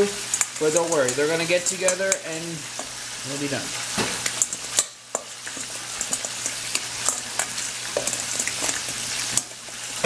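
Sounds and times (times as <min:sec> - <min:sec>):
deep-frying sizzle: 0:00.0 - 0:10.0.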